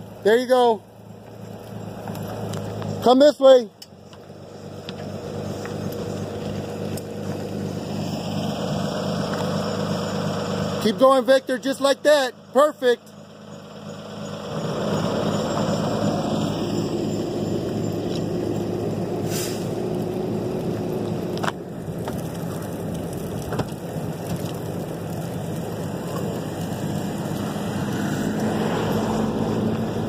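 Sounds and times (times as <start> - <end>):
vehicle engine running under load: 0.0 - 30.0.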